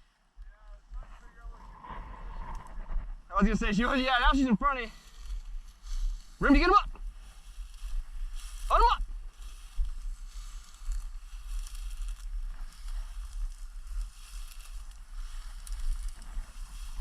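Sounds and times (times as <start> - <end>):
wind rumble on microphone: 0.0 - 17.0
footsteps crunching dry grass: 0.7 - 17.0.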